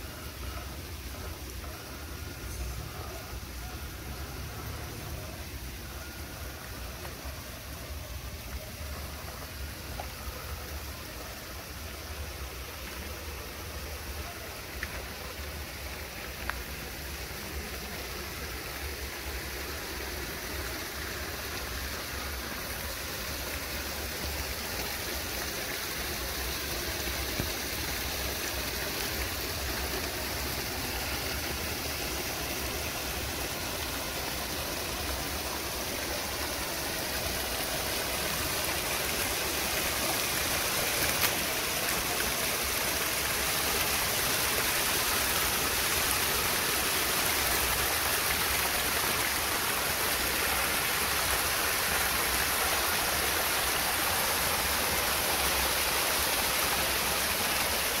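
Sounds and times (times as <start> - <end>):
stream water over rocks: 0.0 - 58.0.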